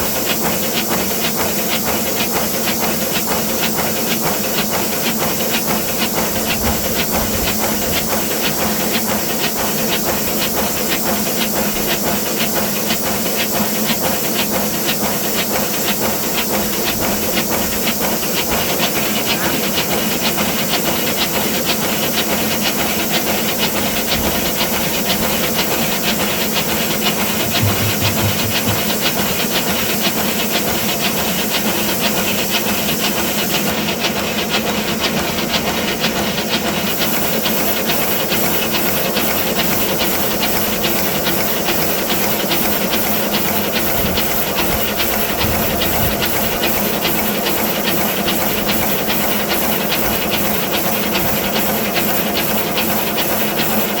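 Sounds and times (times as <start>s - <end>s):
loud steam hiss: 0.0s - 33.9s, 36.6s - 54.0s
fast steam exhaust beats: 0.0s - 54.0s.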